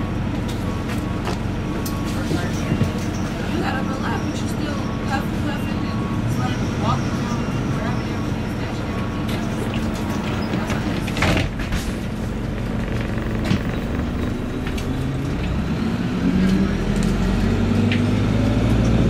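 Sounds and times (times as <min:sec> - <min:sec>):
bus engine droning: 0:00.0 - 0:19.0
road noise: 0:00.0 - 0:19.0.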